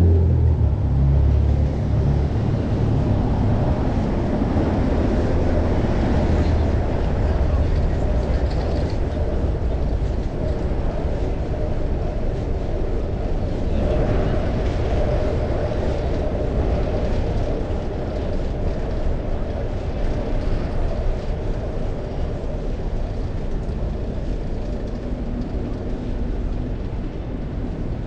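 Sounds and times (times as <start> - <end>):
bicycle road noise: 0.0 - 28.0.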